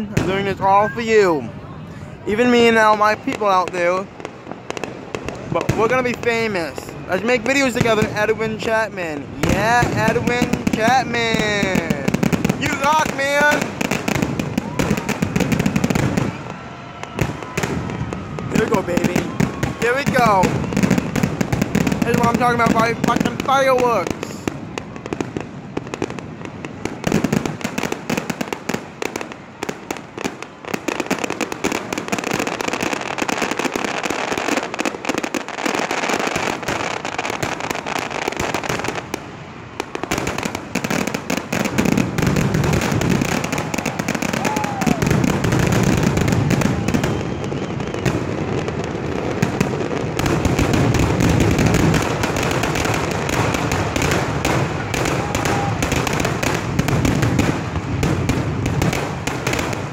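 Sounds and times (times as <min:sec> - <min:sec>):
fireworks bangs and crackles: 0:00.0 - 0:59.9
low fireworks booms: 0:00.0 - 0:59.9.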